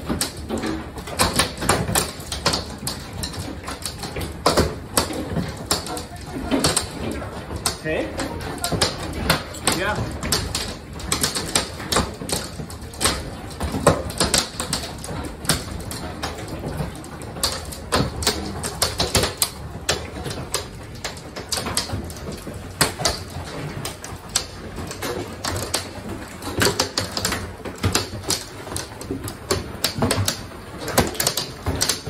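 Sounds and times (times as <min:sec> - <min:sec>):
hailstones hitting a house: 0:00.0 - 0:32.0.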